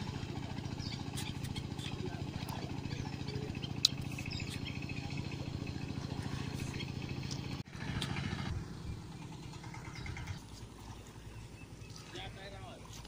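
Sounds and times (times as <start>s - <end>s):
engine running with low throb: 0.0s - 13.0s
rough uneven engine sound: 0.0s - 13.0s.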